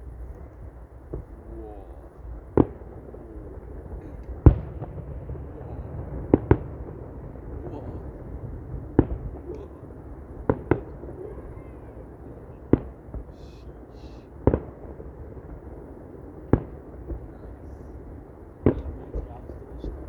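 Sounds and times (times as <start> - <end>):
fireworks bursting: 0.0 - 20.0
low background rumble: 0.0 - 20.0.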